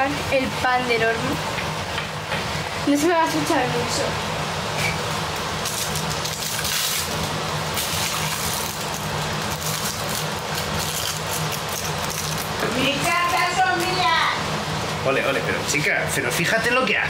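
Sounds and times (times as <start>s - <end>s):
chicken sizzling in hot oil: 0.0s - 14.7s.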